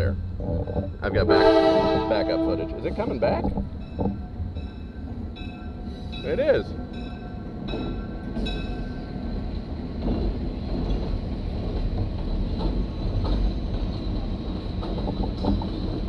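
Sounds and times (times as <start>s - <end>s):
train rumbling on bridge: 0.0s - 16.0s.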